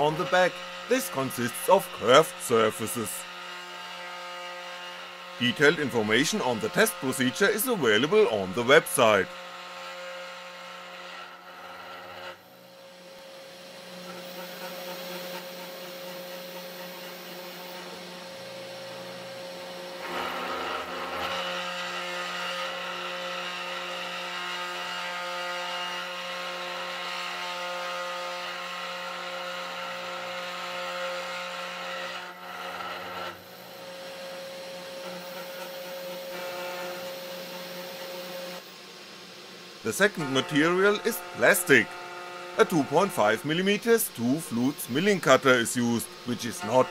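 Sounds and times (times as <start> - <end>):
router motor milling wood: 0.0 - 46.9.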